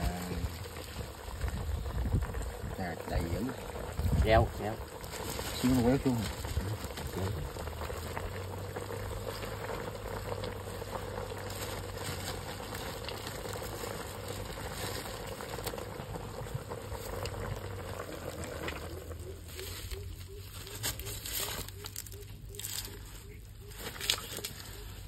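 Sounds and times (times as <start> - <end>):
pot bubbling: 0.0 - 25.0.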